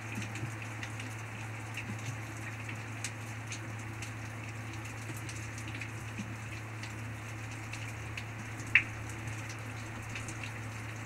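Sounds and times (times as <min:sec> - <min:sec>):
rain drops ticking: 0:00.0 - 0:11.0
steady rain falling: 0:00.0 - 0:11.0.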